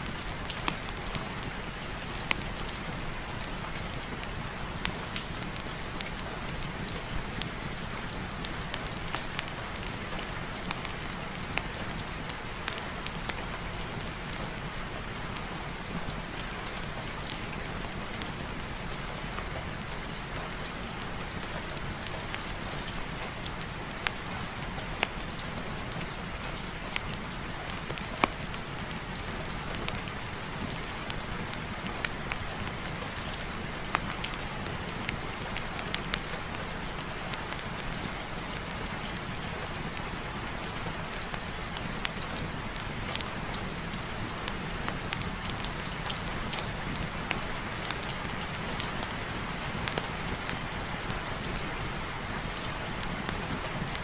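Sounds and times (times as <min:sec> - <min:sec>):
heavy rain with ticking drops: 0:00.0 - 0:54.0.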